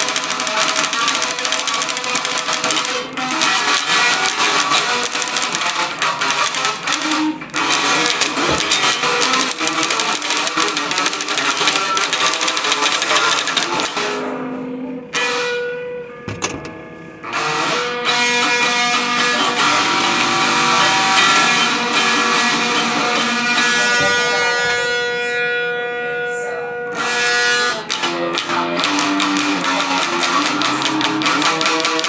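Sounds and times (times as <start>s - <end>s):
electric guitar held notes: 0.0s - 32.0s
fast picked guitar riff: 0.0s - 32.0s.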